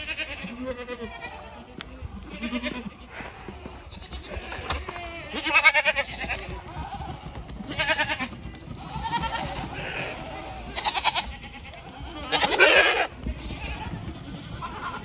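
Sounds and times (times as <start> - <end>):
goats bleating: 0.0 - 15.0.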